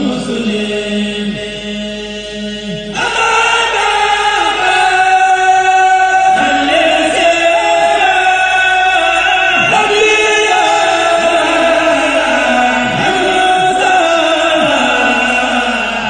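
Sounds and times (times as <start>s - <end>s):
higher chanting voices: 0.0s - 16.0s
men chanting together: 0.0s - 16.0s.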